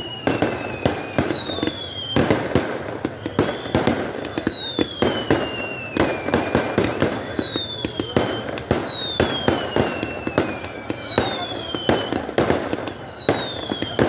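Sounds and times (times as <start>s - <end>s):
falling firework whistles: 0.0s - 14.0s
fireworks bangs: 0.0s - 14.0s.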